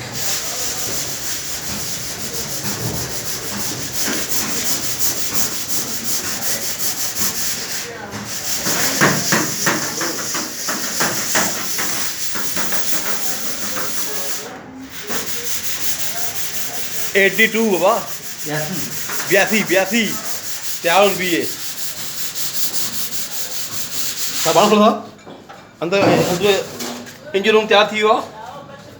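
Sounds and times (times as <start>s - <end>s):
sanding on metal bodywork: 0.0s - 24.8s.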